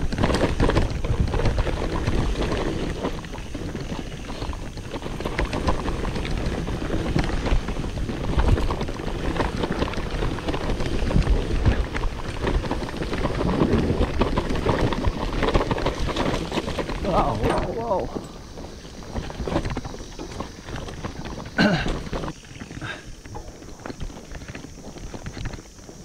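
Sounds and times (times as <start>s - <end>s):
bike rattling knocks: 0.0s - 25.7s
bike tyre rumble: 0.0s - 26.0s
wind buffeting the microphone: 0.0s - 26.0s.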